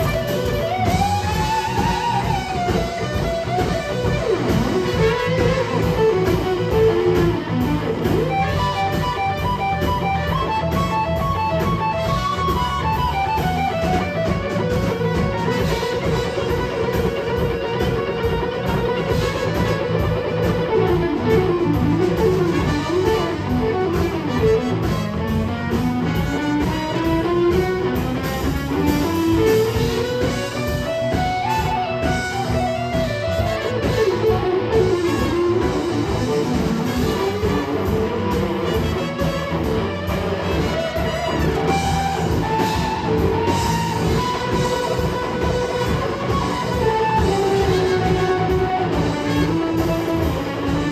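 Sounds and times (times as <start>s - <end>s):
bass and drum beat: 0.0s - 50.9s
electric guitar lead line: 0.0s - 50.9s.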